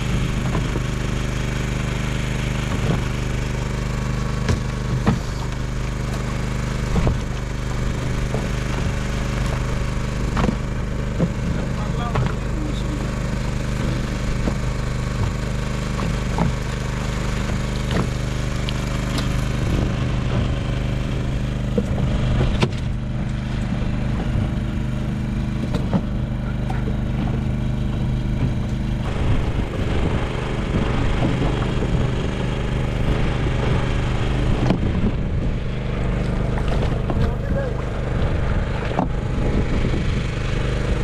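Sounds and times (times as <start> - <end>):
boat engine humming: 0.0 - 41.0
knocks and clicks aboard: 0.0 - 41.0.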